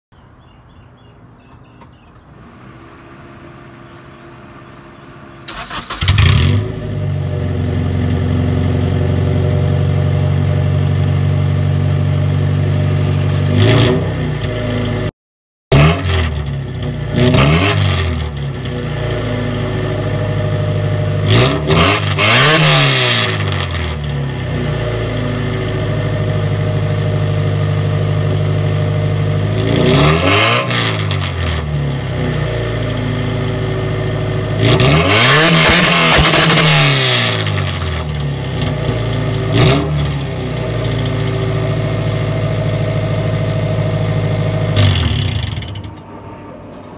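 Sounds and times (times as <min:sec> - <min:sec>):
car engine starting and revving: 0:05.4 - 0:15.1, 0:15.7 - 0:46.1.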